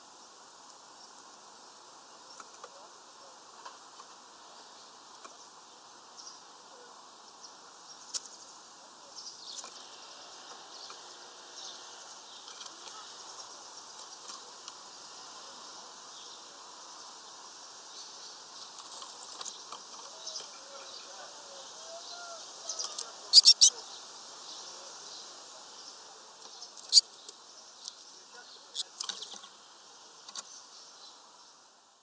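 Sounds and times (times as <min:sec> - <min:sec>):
faint outdoor ambience: 0:00.0 - 0:32.0
small birds chirping: 0:02.1 - 0:32.0.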